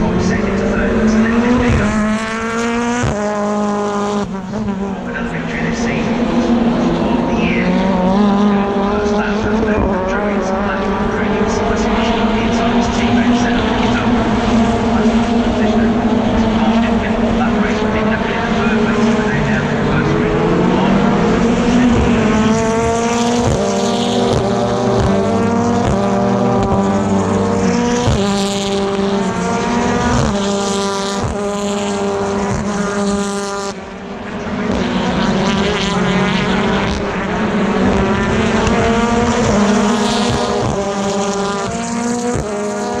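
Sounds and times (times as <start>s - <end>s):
racing car engines at full throttle: 0.0s - 43.0s.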